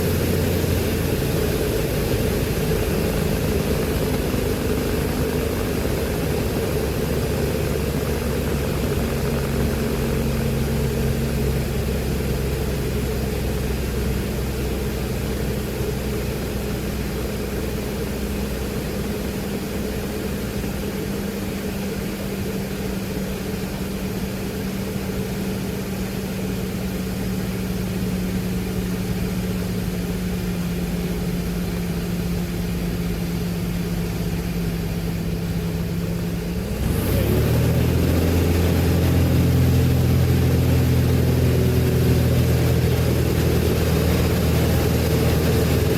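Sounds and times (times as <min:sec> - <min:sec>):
light aircraft engine droning: 0:00.0 - 0:45.9.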